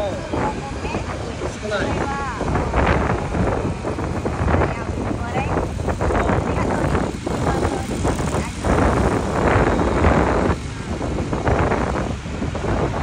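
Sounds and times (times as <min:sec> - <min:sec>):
vehicle running along road: 0:00.0 - 0:13.0
wind buffeting microphone: 0:00.0 - 0:13.0.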